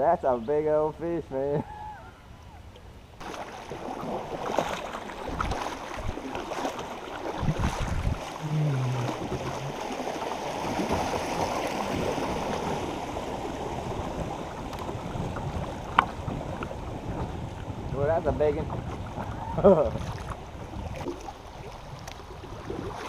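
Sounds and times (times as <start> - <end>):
creek water running: 2.6 - 23.0
low bumps on kayak: 2.7 - 23.0.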